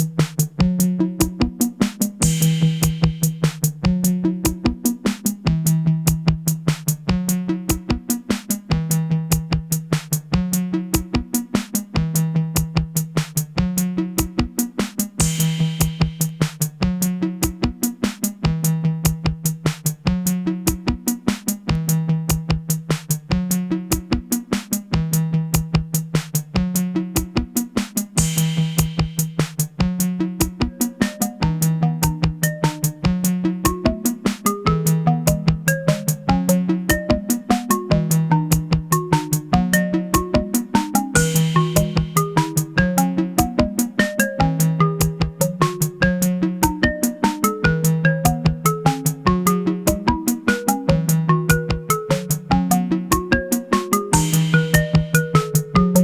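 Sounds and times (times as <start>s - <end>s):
drum machine beat: 0.0s - 56.0s.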